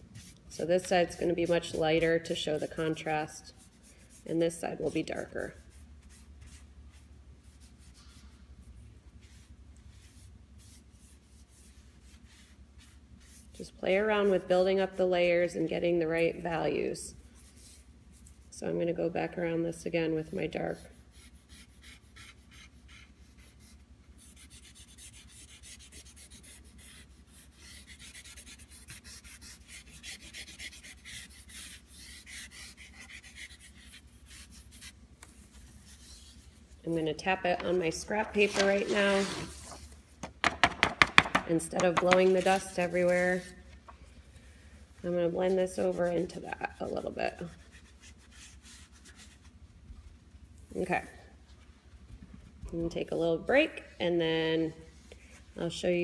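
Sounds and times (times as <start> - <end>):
tissue brushing on paper: 0.0 - 15.1, 17.2 - 18.5, 20.2 - 40.2, 41.8 - 43.7, 44.5 - 51.6.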